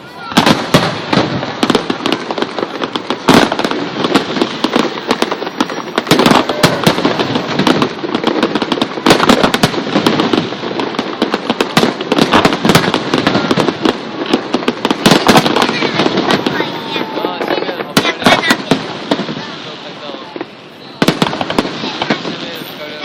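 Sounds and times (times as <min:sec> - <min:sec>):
fireworks bursts and crackling: 0:00.0 - 0:23.0.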